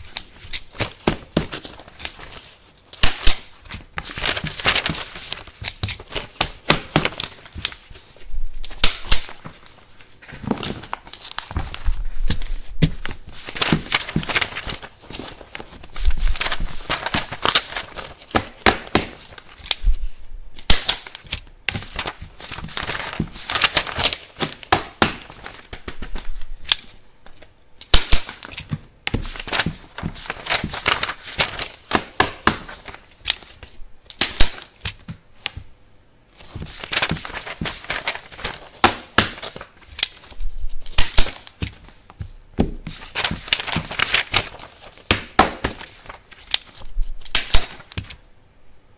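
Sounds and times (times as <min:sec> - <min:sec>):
paper rustling: 0:00.0 - 0:35.7, 0:36.3 - 0:48.2.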